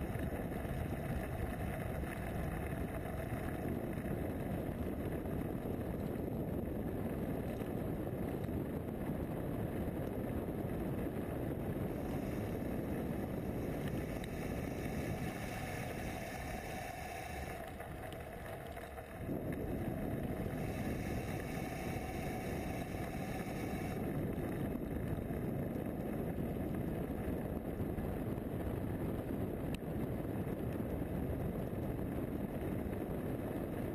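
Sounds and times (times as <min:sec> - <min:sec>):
bike tyre and frame rumble: 0:00.0 - 0:33.9
wind rushing on microphone: 0:00.0 - 0:33.9.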